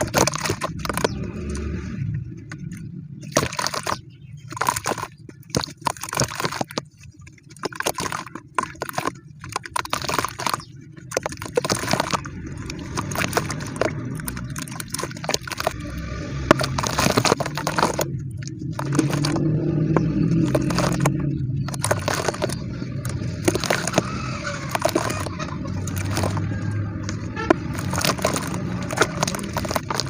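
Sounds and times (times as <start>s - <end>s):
crumbly material crunching: 0.0s - 30.0s.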